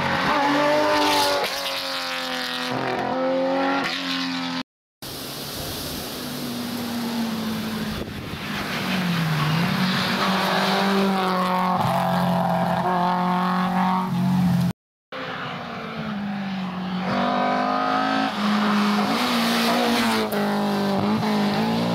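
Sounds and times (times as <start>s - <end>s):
rally car engines revving: 0.0s - 4.6s, 6.9s - 21.9s
road and tyre noise: 0.0s - 21.9s.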